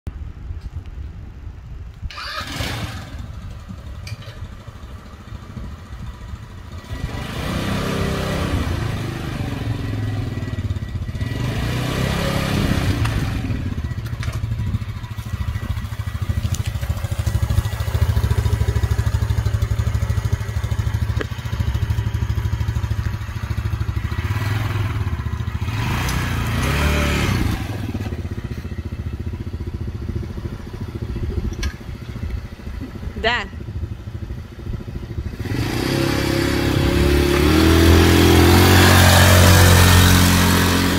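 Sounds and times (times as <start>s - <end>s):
quad bike engine revving: 2.1s - 5.7s, 6.5s - 40.9s.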